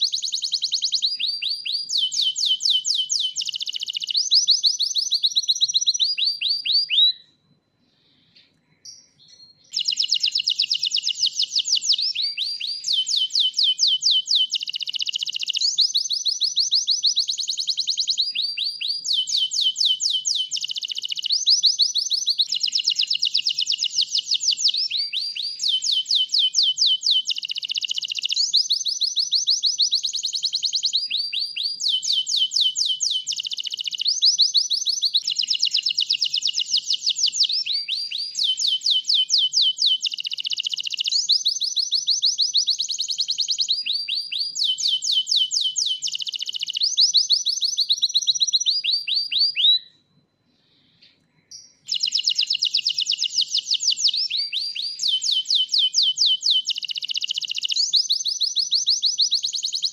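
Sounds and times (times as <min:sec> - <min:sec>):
canary singing trills: 0:00.0 - 0:07.4, 0:08.8 - 0:49.9, 0:51.5 - 0:59.9.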